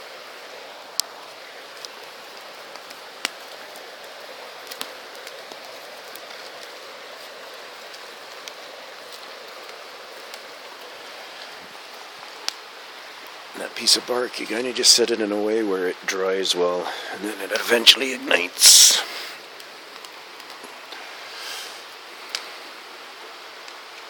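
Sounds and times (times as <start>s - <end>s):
campfire crackling and popping: 0.0s - 24.0s
creek rushing: 0.0s - 24.0s.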